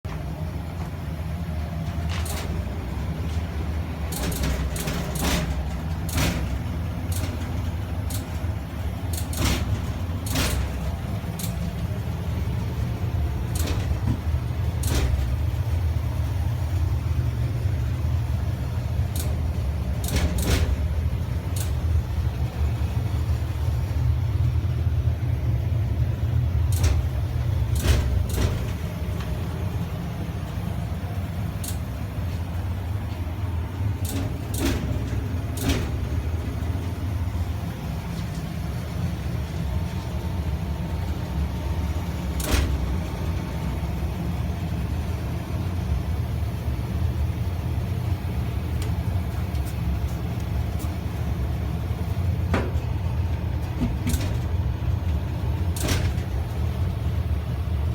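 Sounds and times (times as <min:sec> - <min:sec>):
furnace rumbling: 0:00.0 - 0:57.9.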